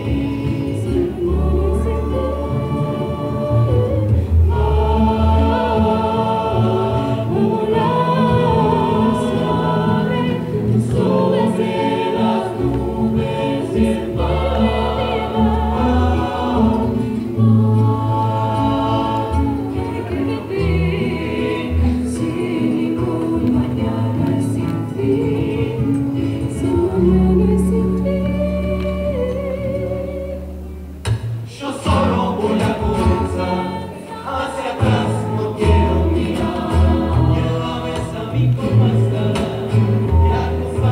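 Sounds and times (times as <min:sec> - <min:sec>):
acoustic guitars: 0:00.0 - 0:40.9
double bass: 0:00.0 - 0:40.9
voices singing in harmony: 0:00.0 - 0:40.9.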